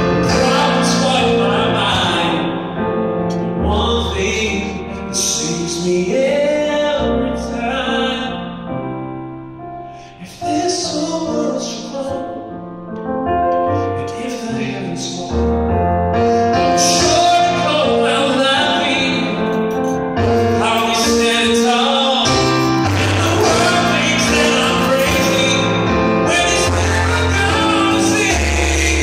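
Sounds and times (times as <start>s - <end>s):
man singing a ballad: 0.0s - 8.9s, 9.9s - 29.0s
keyboard piano chords: 0.0s - 29.0s.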